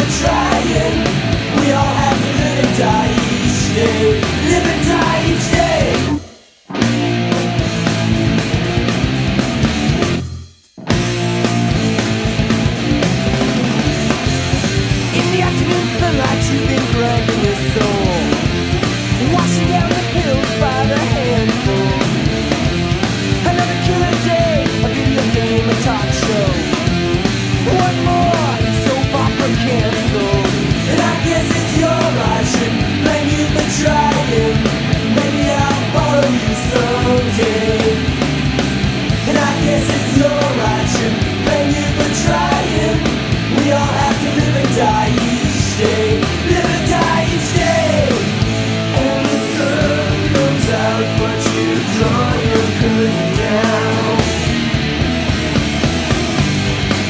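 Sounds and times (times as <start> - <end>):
bass guitar: 0.0 - 57.0
drums playing: 0.0 - 57.0
electric guitars: 0.0 - 57.0.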